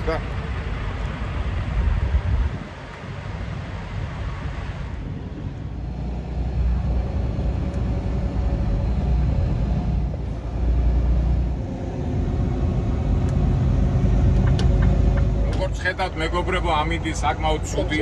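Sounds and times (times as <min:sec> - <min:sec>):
road noise: 0:00.0 - 0:18.0
truck diesel engine rumble: 0:00.0 - 0:18.0.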